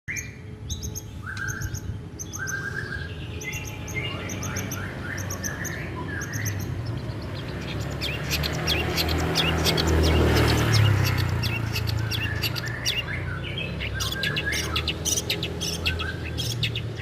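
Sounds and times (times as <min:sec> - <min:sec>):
shrike singing: 0:00.1 - 0:17.0.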